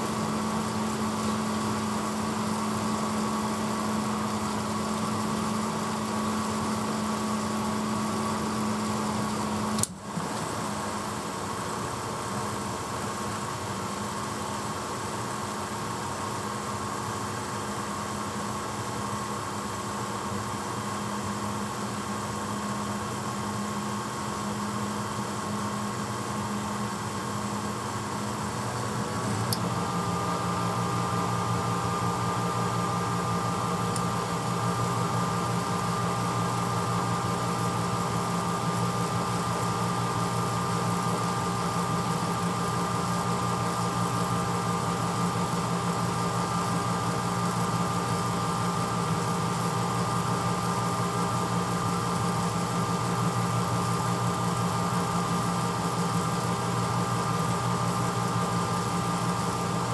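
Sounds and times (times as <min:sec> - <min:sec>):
dishwasher motor hum: 0:00.0 - 0:59.9.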